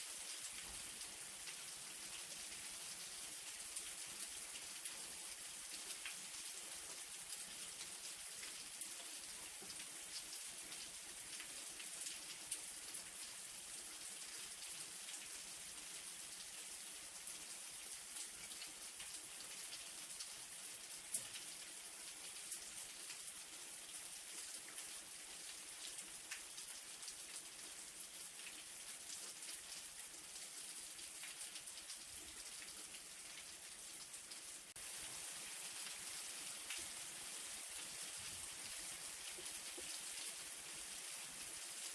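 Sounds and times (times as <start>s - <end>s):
light rain hiss: 0.0s - 41.9s.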